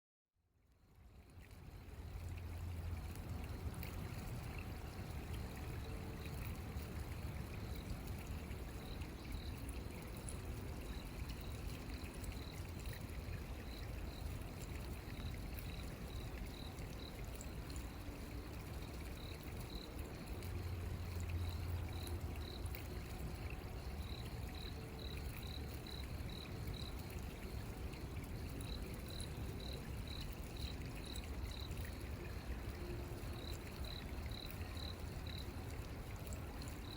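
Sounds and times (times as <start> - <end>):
stream flowing: 0.7 - 36.9.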